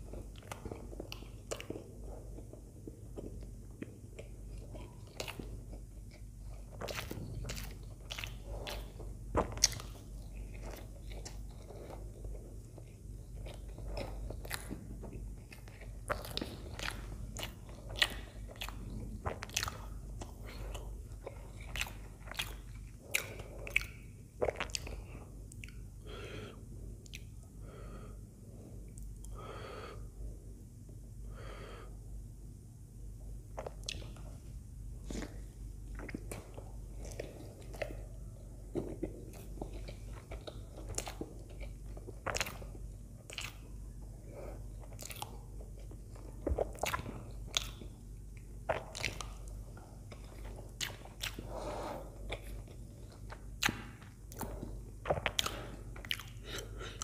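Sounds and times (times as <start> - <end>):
wet chewing sounds: 0.0 - 26.0, 27.0 - 27.5, 33.5 - 57.0.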